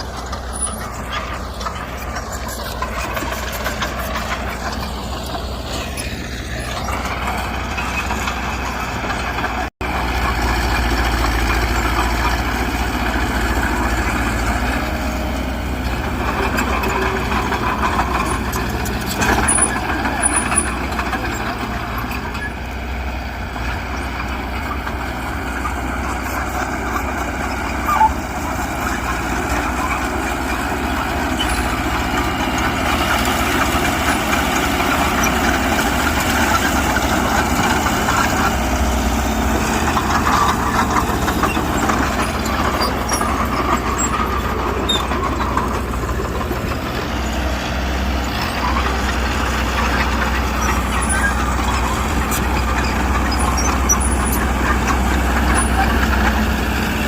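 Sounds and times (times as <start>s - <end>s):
diesel engine of earthmoving machine: 0.0s - 57.0s.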